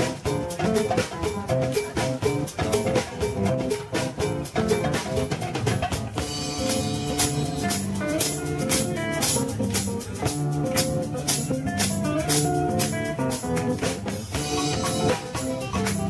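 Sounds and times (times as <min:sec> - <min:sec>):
drum kit: 0:00.0 - 0:16.0
electric bass: 0:00.0 - 0:16.0
guitars: 0:00.0 - 0:16.0.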